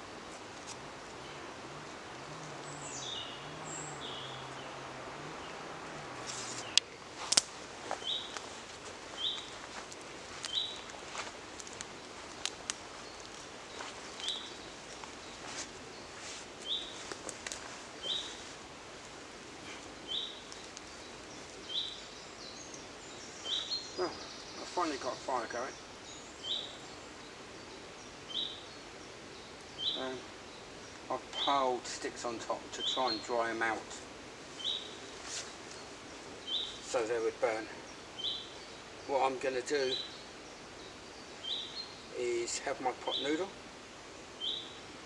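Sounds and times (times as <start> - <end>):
outdoor background noise: 0.0 - 45.0
songbird chirping: 0.0 - 45.0.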